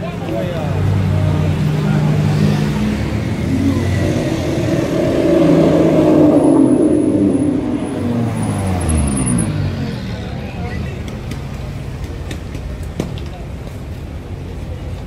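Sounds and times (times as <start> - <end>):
sports car engines passing: 0.1 - 12.2.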